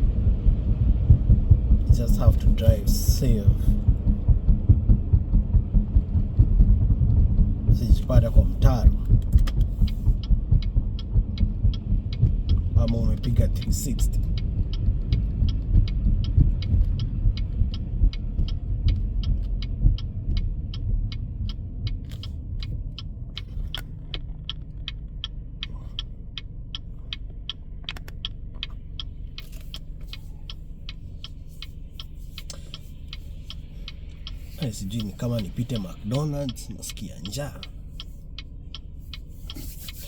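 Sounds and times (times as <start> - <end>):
car engine rumble: 0.0 - 40.0
road noise: 0.0 - 40.0
turn signal clicking: 0.0 - 40.0.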